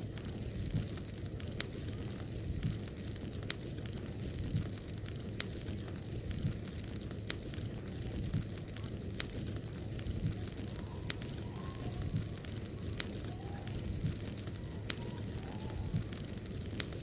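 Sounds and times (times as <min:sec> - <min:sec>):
bonfire flame rushing: 0:00.0 - 0:17.0
burning wood crackling pops: 0:00.0 - 0:17.0.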